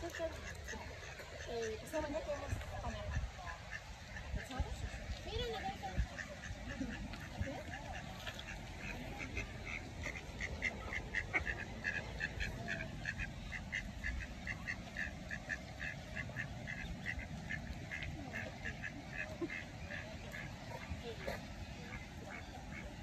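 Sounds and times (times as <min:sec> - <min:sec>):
ducklings peeping: 0:00.0 - 0:23.0.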